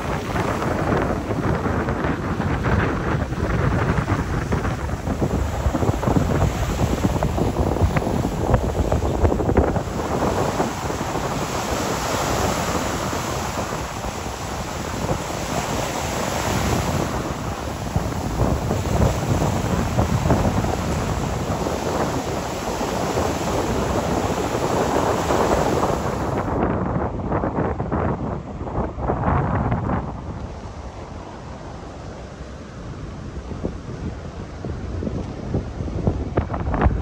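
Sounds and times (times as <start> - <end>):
ocean surf breaking on sand: 0.0 - 37.0
wind buffeting microphone: 0.0 - 37.0.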